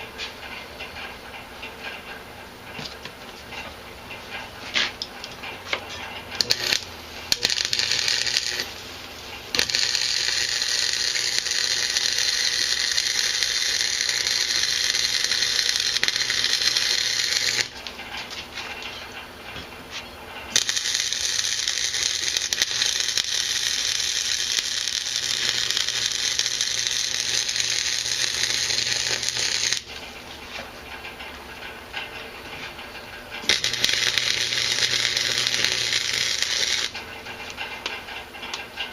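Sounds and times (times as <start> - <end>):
welding arc crackling: 6.3 - 19.7, 20.3 - 38.6.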